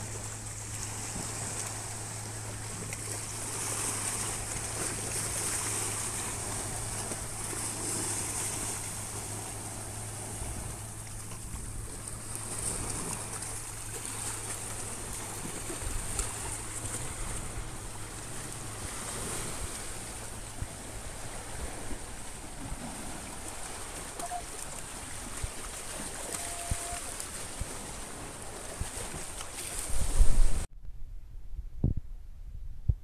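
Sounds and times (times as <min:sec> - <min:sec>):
sea waves washing over rocks: 0:00.0 - 0:30.7
low steady hum: 0:00.0 - 0:33.0.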